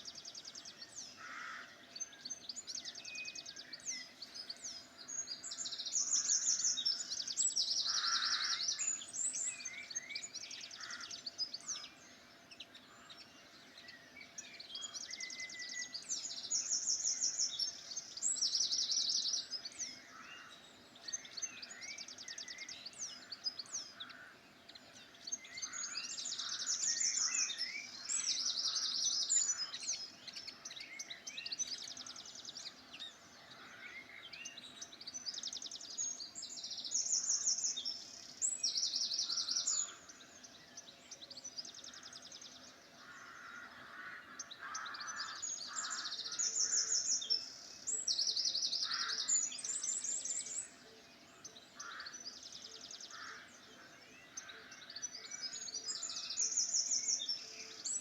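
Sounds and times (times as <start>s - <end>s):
bird song of rapid trills: 0.0s - 58.0s
songbirds singing: 0.0s - 58.0s.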